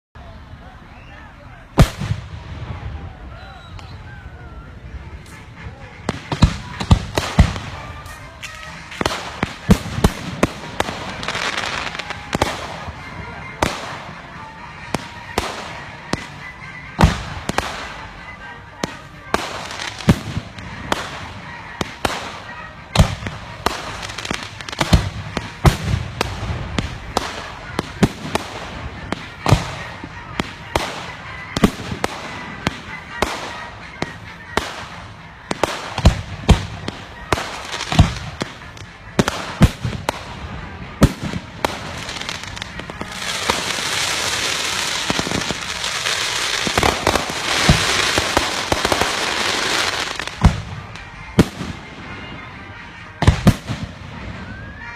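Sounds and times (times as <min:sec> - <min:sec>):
hissing crackle of fireworks: 0:01.7 - 0:04.1, 0:05.2 - 0:54.9.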